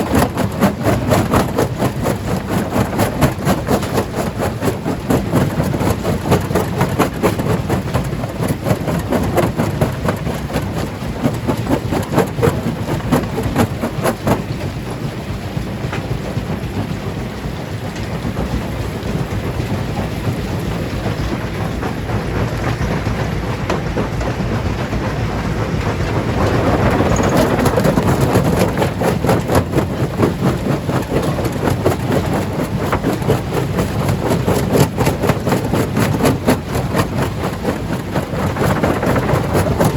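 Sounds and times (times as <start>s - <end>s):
stone crusher machine rumble: 0.0s - 39.9s.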